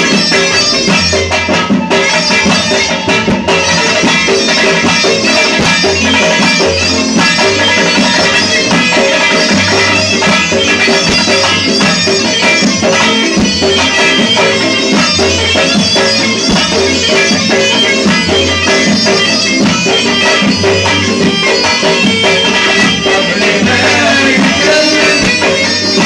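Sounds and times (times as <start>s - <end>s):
reedy melody: 0.0s - 26.0s
repeating bass notes: 0.0s - 26.0s
steady drum beat: 0.0s - 26.0s.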